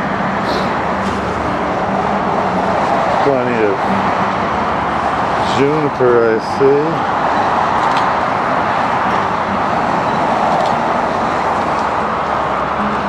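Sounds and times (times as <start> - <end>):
highway traffic roar: 0.0 - 13.0.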